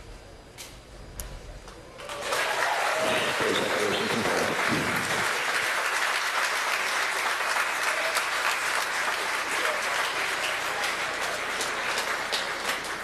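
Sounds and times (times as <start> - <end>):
crowd applauding and cheering: 1.9 - 13.0.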